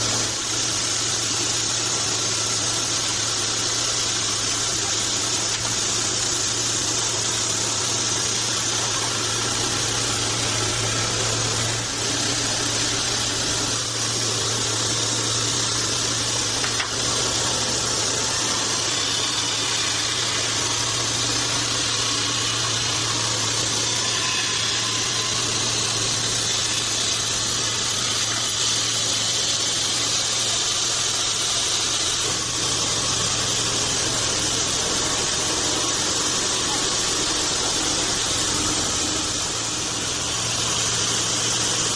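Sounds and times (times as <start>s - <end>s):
band sawmill running: 0.0s - 41.9s.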